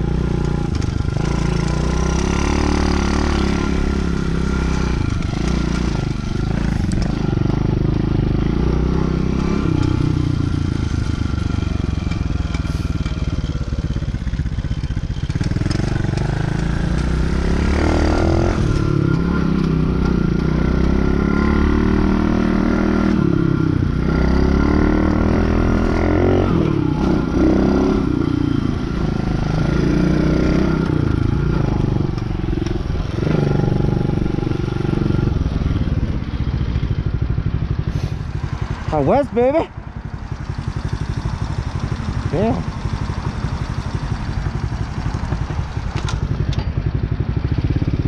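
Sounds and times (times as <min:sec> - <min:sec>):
dirt bike engine revving: 0:00.0 - 0:14.1, 0:15.3 - 0:36.1, 0:37.9 - 0:46.4.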